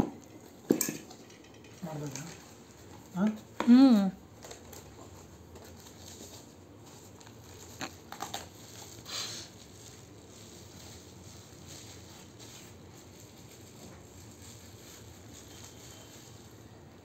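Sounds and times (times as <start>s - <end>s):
plastic rustling: 1.2s - 17.0s
bubble wrap crinkling: 1.8s - 17.0s.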